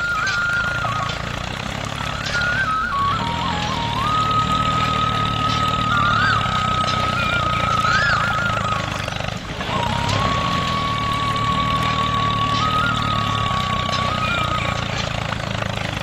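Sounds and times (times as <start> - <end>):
small motor whining under load: 0.0 - 16.0.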